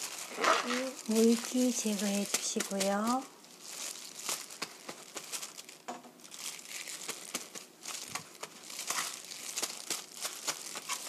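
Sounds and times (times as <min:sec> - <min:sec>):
paper towel crinkling: 0:00.0 - 0:11.0.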